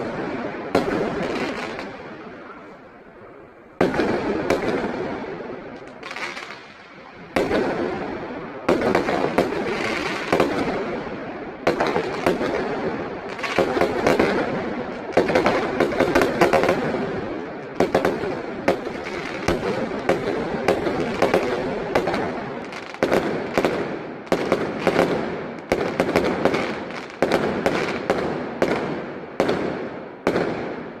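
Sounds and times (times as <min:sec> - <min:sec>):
fireworks bangs: 0:00.0 - 0:31.0
fireworks crackle: 0:00.0 - 0:31.0.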